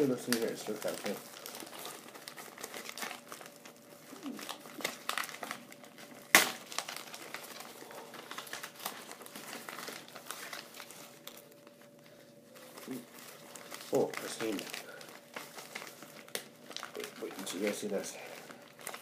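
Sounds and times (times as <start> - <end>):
plastic mailer crinkling: 0.0 - 19.0.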